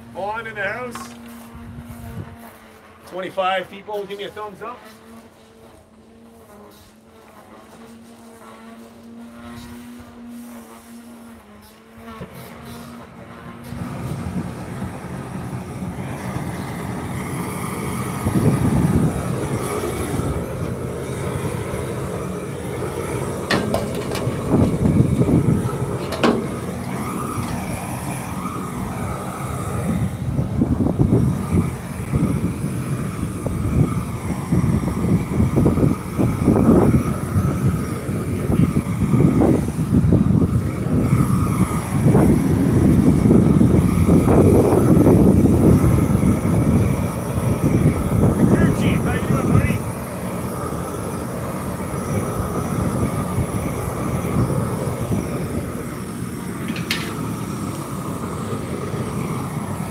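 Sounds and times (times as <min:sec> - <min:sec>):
propane torch flame rumbling: 0:00.0 - 0:59.9.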